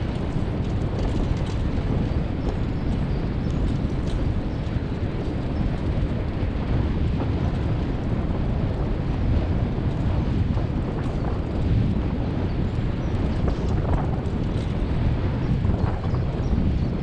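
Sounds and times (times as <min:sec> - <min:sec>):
wheels rumbling over dirt track: 0:00.0 - 0:17.0
wind buffeting microphone: 0:00.0 - 0:17.0.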